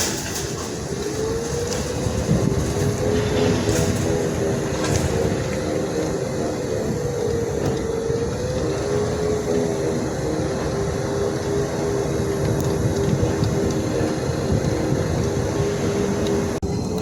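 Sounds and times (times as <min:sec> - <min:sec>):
electric scooter drivetrain whine: 0:00.0 - 0:17.0
rough grinding noise: 0:00.0 - 0:17.0.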